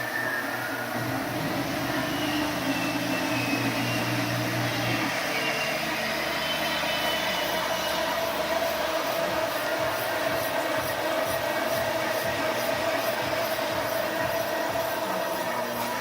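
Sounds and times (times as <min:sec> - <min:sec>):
machine tool humming and whining: 0:00.0 - 0:16.0.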